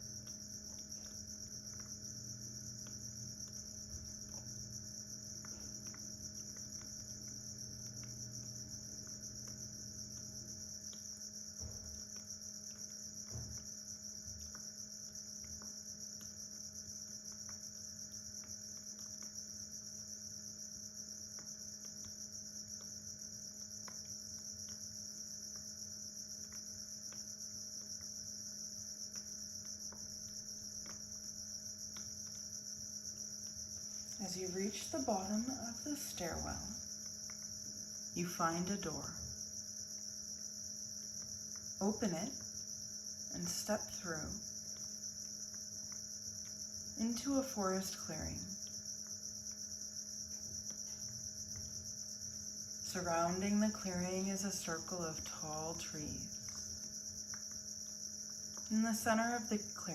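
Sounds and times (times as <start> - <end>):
crickets trilling: 0.0 - 59.9
faint low hum: 0.0 - 59.9.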